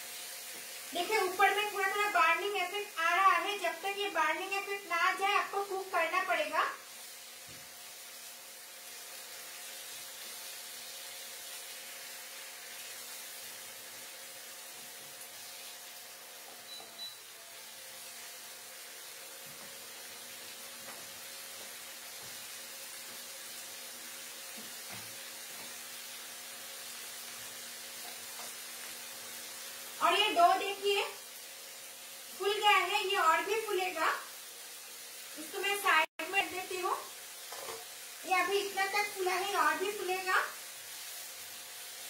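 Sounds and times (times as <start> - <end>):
chicken frying in oil: 0.0 - 42.0
induction cooktop hum: 0.0 - 42.0.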